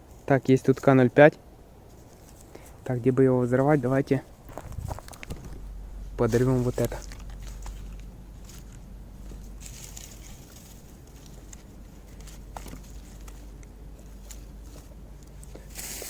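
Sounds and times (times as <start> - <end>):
low steady rumble: 0.0 - 16.0
rustling handling noise: 1.8 - 16.0.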